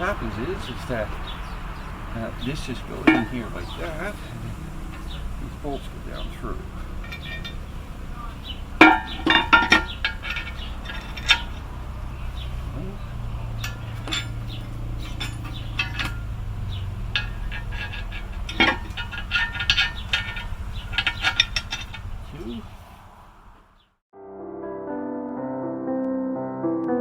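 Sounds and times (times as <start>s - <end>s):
steel clinking and knocking: 0.0s - 22.7s.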